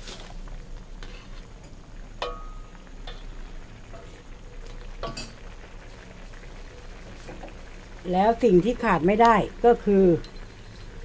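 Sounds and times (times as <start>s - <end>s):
soft sizzle: 0.0s - 11.0s.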